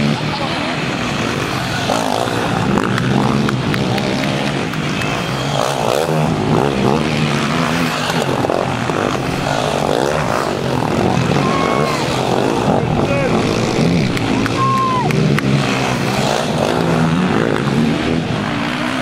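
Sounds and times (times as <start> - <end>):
quad bike engines revving: 0.0 - 19.0.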